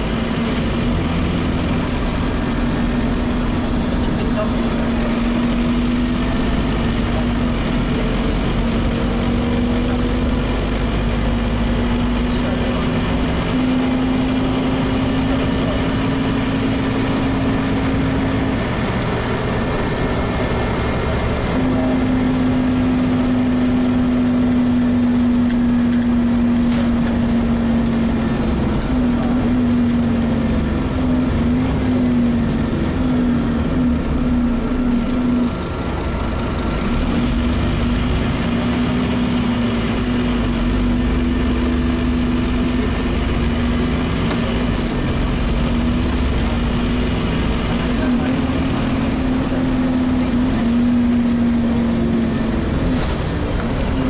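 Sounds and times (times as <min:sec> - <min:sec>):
bus diesel engine interior: 0:00.0 - 0:54.0
road noise rumble: 0:00.0 - 0:54.0.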